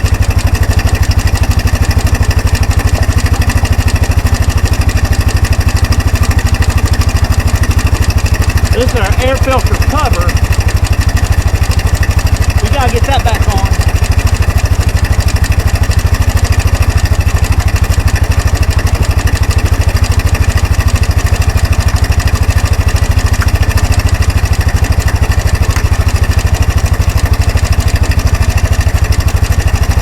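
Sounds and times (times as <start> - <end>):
atv engine idling: 0.0 - 30.0.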